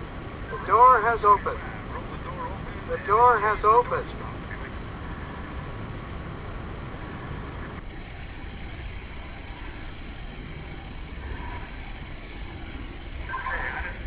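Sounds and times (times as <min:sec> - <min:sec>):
faint steady hum: 0:00.0 - 0:14.0
radio static hiss and rumble: 0:00.0 - 0:14.0.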